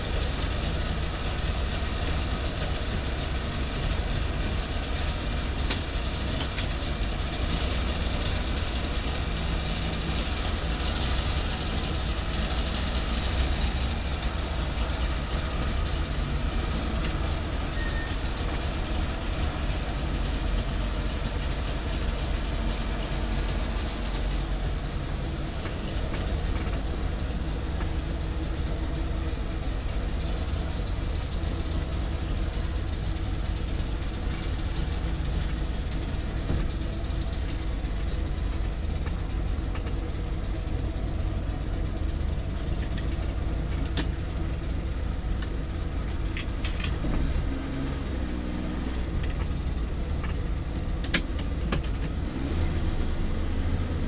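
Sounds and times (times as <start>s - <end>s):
two-stroke car engine running: 0.0s - 54.0s.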